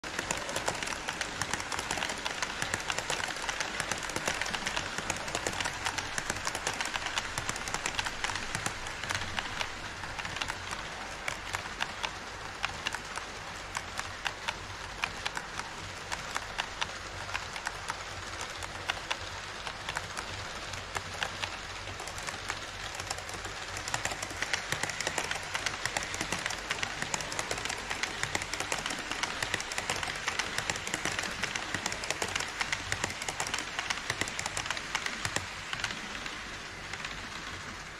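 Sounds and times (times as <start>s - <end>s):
model train wheels clattering: 0.0s - 37.9s.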